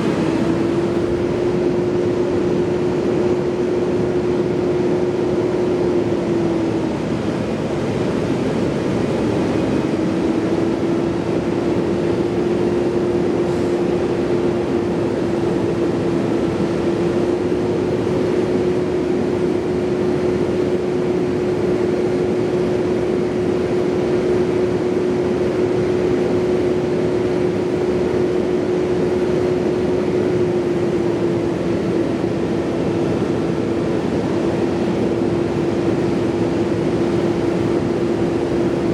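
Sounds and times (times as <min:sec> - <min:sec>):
large engine humming: 0:00.0 - 0:38.9
steady rushing noise: 0:00.0 - 0:38.9.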